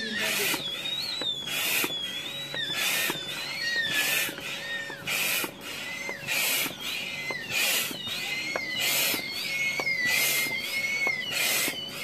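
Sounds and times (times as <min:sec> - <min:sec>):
hand air pump strokes: 0:00.0 - 0:12.0
high thin squeal: 0:00.0 - 0:12.0.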